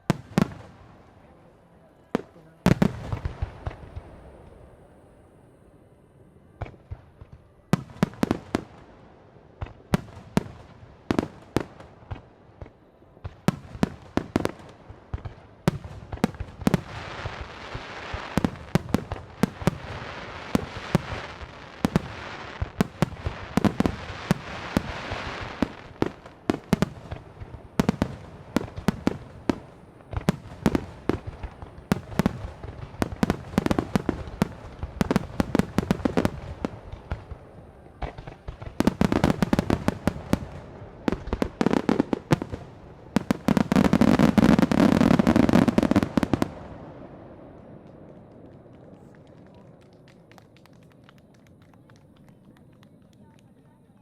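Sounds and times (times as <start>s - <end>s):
fireworks crackling: 0.0s - 54.0s
fireworks booming: 2.1s - 5.2s, 6.5s - 50.9s.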